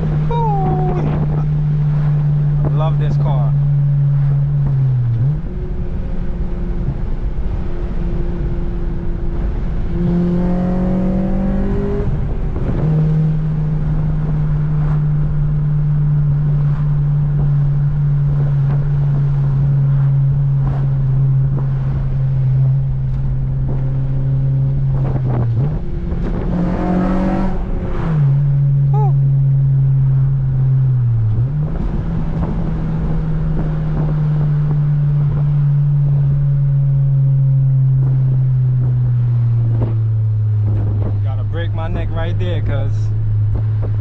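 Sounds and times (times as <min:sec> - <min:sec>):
car engine and exhaust driving: 0:00.0 - 0:44.0.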